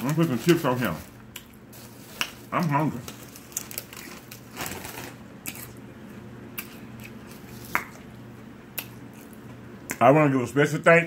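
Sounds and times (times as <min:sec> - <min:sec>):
chewing potato chips: 0:00.0 - 0:10.0
faint steady hum: 0:00.0 - 0:11.0.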